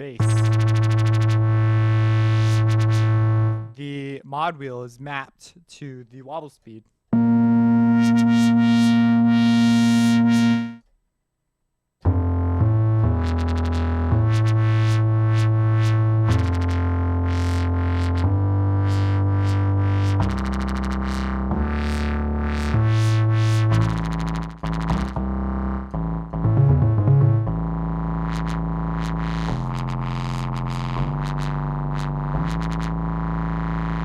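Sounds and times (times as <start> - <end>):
synth bass notes: 0.0 - 4.0, 7.1 - 10.8, 12.0 - 34.0.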